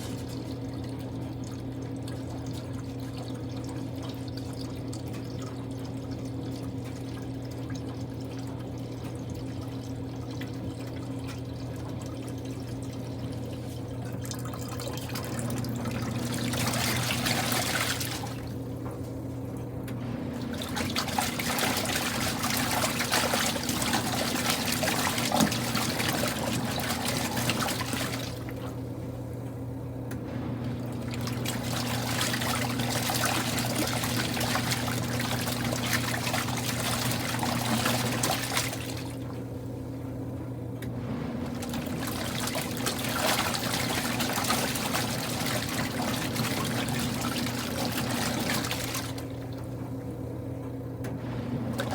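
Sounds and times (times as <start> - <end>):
water pouring and splashing: 0.0 - 19.2, 19.9 - 29.2, 30.1 - 39.6, 40.8 - 49.8, 51.2 - 51.9
washing machine motor hum: 0.0 - 51.9.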